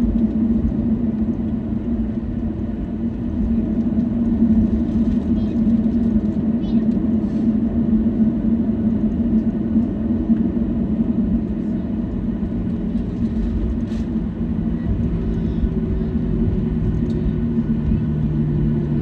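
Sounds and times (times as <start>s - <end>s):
airplane cabin hum: 0.0s - 19.0s.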